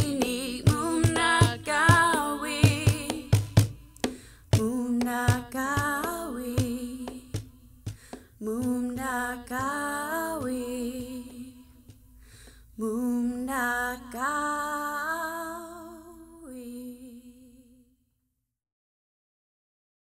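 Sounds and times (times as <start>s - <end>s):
woman singing unaccompanied: 0.0s - 12.1s, 12.8s - 17.8s.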